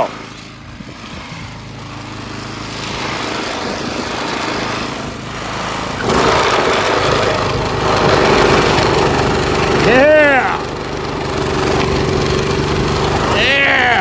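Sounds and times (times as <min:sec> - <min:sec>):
snowblower engine running: 0:00.0 - 0:14.0.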